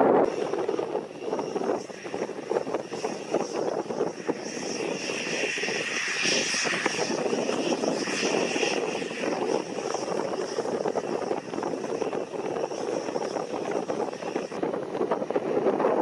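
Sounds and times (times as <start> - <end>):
high engine whine: 0.0 - 16.0
propeller plane engine idling: 0.2 - 16.0.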